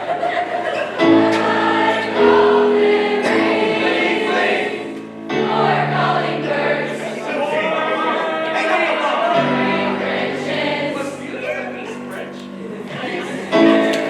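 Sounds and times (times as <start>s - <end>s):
choir singing a christmas song: 0.0s - 14.0s.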